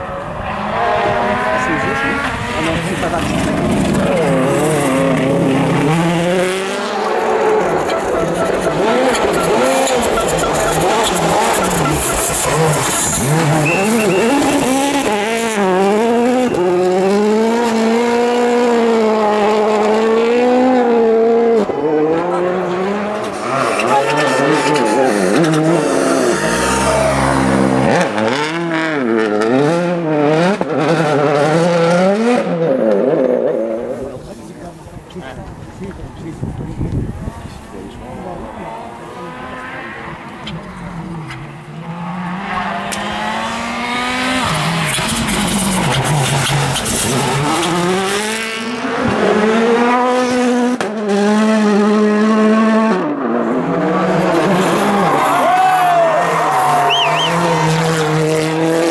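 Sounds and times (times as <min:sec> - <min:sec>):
rally car engine revving: 0:00.0 - 0:58.9.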